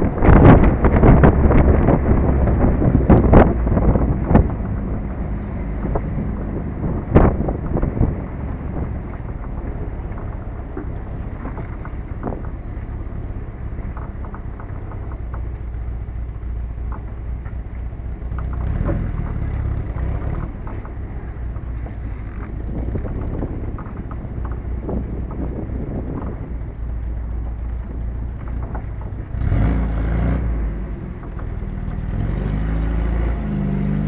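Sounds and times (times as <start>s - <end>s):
car engine running: 0.0s - 34.0s
wind buffeting microphone: 0.0s - 34.0s.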